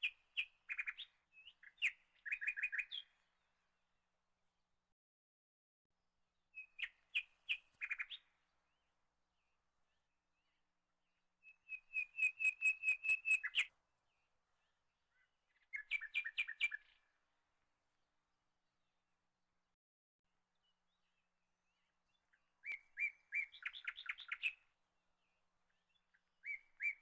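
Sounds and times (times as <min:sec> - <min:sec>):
songbird chirping: 0:00.0 - 0:04.0, 0:06.5 - 0:19.2, 0:20.4 - 0:27.0.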